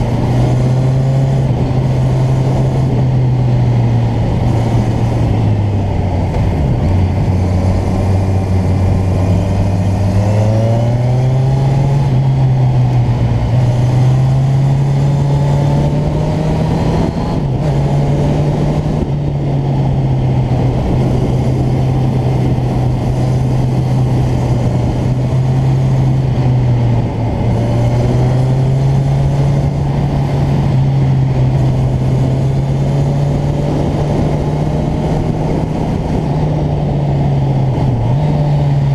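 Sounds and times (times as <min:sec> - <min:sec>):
motorcycle engine accelerating: 0:00.0 - 0:38.9
wind noise: 0:00.0 - 0:38.9.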